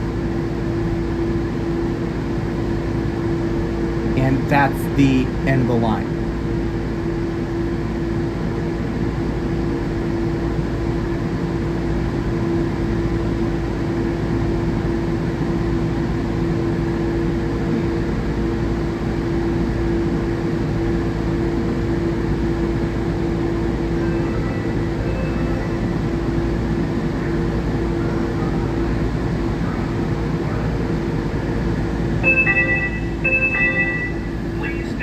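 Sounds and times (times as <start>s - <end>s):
steady droning hum of train car: 0.0s - 35.0s.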